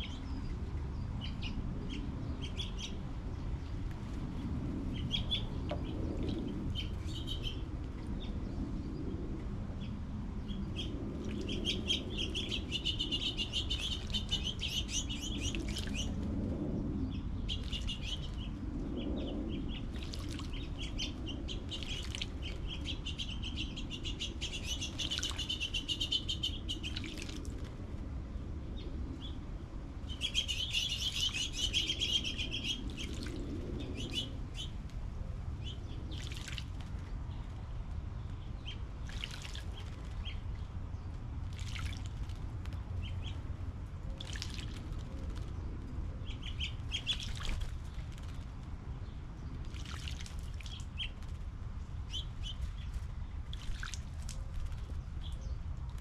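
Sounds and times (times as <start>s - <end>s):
low background rumble: 0.0s - 56.0s
songbirds twittering: 0.0s - 56.0s.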